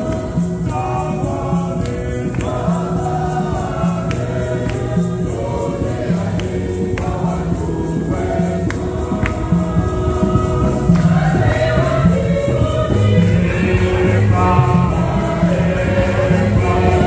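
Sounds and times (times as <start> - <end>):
bass accompaniment: 0.0 - 17.0
choir singing a hymn: 0.0 - 17.0.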